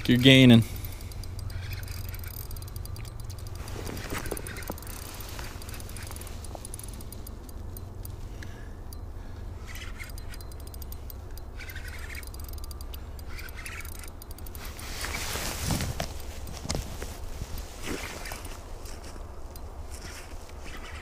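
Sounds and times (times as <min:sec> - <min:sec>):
fishing reel ticking: 0:00.0 - 0:15.3, 0:17.5 - 0:21.0
rustling: 0:00.2 - 0:08.3, 0:09.6 - 0:21.0.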